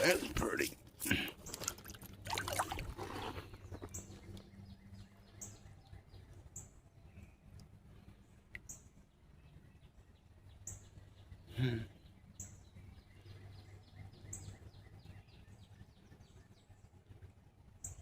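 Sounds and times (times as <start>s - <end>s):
bird chirping: 1.4s - 18.0s.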